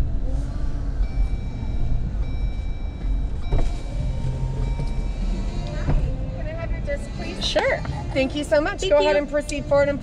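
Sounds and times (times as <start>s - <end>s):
vehicle cab low rumble: 0.0s - 10.0s.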